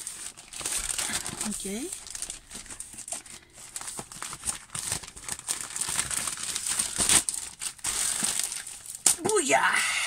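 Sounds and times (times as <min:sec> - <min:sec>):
plastic mailer bag crinkling: 0:00.0 - 0:09.3.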